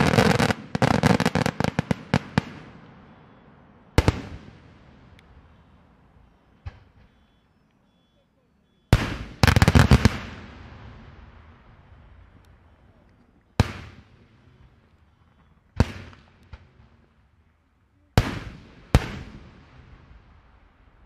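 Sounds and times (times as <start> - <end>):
fireworks bursting with echo: 0.0 - 7.5, 8.8 - 17.4, 18.0 - 21.0.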